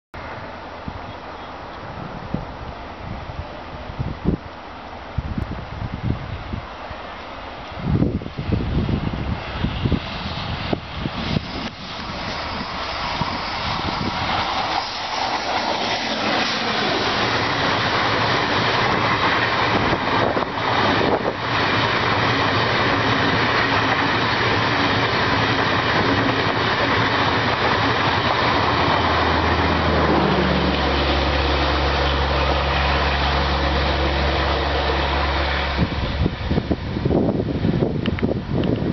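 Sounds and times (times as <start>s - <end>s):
train wheels rolling on rails: 6.5s - 38.9s.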